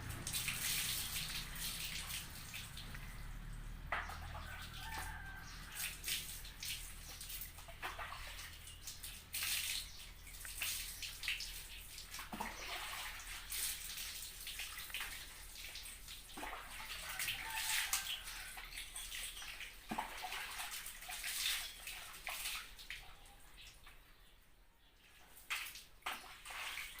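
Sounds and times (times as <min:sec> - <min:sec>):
water pouring and splashing: 0:00.0 - 0:24.2, 0:25.0 - 0:27.0.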